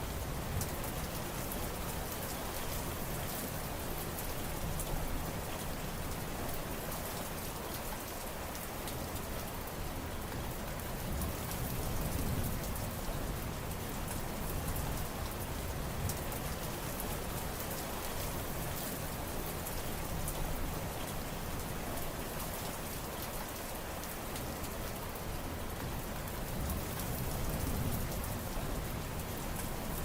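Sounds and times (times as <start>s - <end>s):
rain patter: 0.0s - 30.0s.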